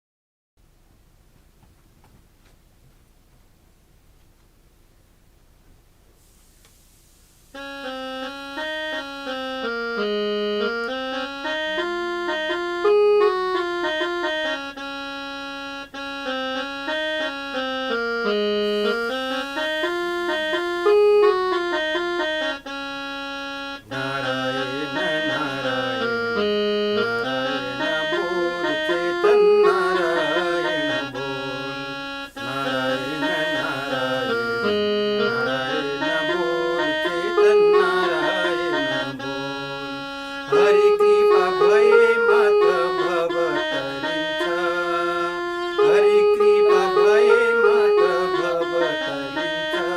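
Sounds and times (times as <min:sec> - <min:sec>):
fuller accompaniment with low notes: 0:07.6 - 0:49.9
keyboard melody: 0:07.6 - 0:49.9.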